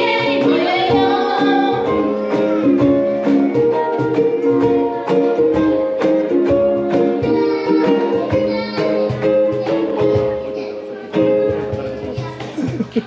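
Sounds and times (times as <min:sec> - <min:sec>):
ukuleles strumming chords: 0:00.0 - 0:13.0.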